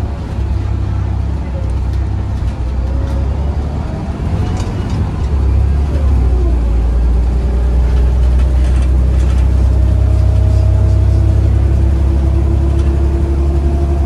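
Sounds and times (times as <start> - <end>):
bus diesel engine rumble: 0.0 - 14.0
faint drivetrain whine: 0.0 - 14.0.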